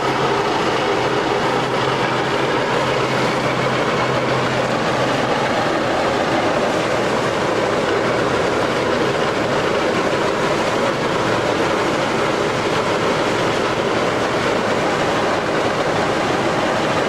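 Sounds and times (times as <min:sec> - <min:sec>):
road roller running: 0:00.0 - 0:17.0.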